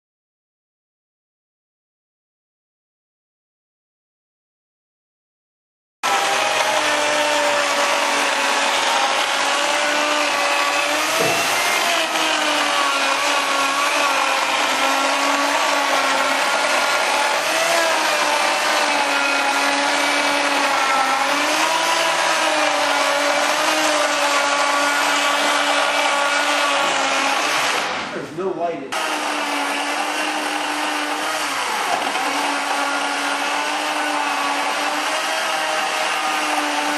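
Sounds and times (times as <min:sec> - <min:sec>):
circular saw cutting: 0:06.0 - 0:28.3, 0:28.9 - 0:36.9.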